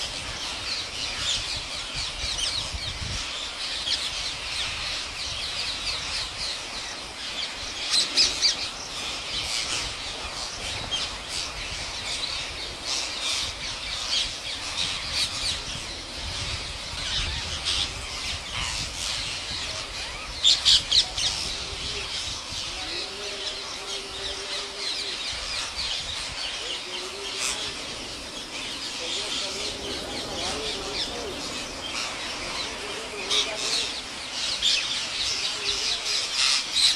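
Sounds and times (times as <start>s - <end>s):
parrots chattering and squawking: 0.0s - 36.9s.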